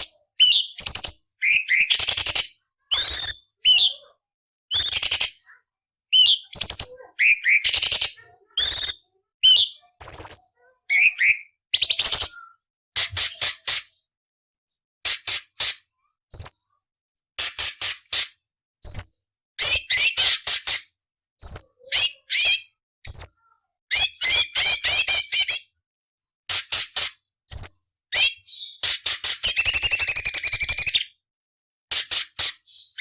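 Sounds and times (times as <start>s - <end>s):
bird singing harsh rasping song: 0.0s - 14.2s, 15.0s - 16.8s, 17.4s - 25.8s, 26.5s - 31.3s, 32.0s - 33.0s.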